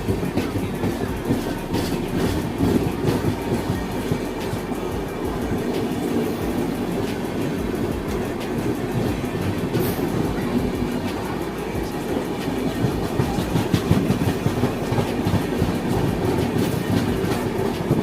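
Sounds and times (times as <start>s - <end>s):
train wheels rumbling on rails: 0.0s - 18.0s
wheels clicking over rail joints: 0.0s - 18.0s.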